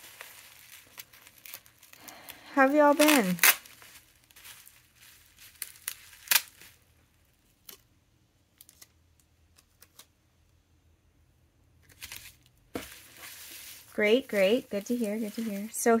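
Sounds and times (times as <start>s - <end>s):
bubble wrap clicks and crinkles: 0.0s - 10.5s, 11.8s - 16.0s.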